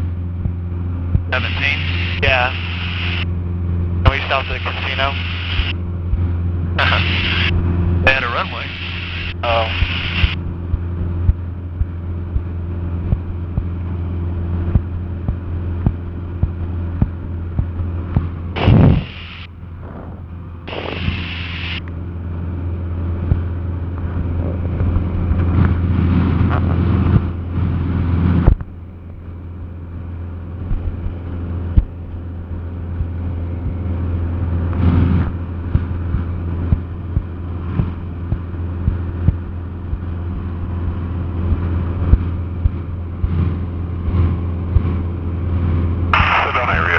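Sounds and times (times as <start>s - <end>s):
small plane cabin drone: 0.0s - 46.9s.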